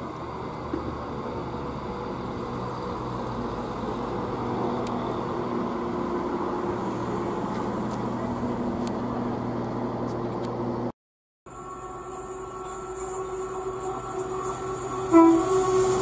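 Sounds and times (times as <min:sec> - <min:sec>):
diesel train engine drone: 0:00.0 - 0:10.9, 0:11.5 - 0:16.0.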